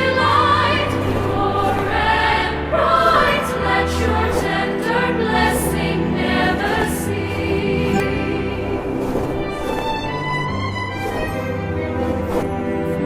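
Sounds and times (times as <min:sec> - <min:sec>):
choir singing slow hymn: 0:00.0 - 0:10.5.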